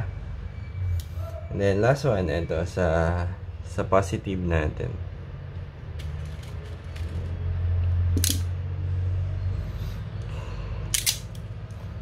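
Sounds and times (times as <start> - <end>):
steady low hum: 2.2 - 12.0.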